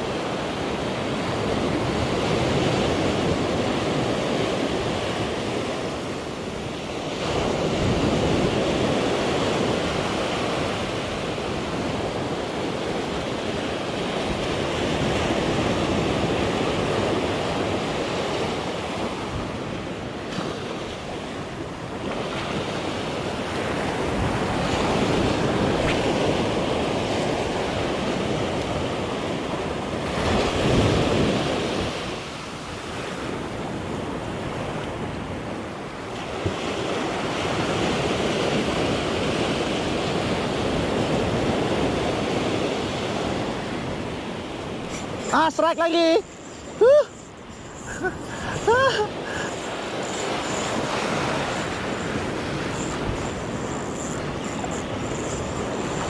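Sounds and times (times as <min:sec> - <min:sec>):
wind on microphone: 0:00.0 - 0:45.4, 0:46.0 - 0:56.0
waves washing onto rocky shore: 0:00.0 - 0:56.0.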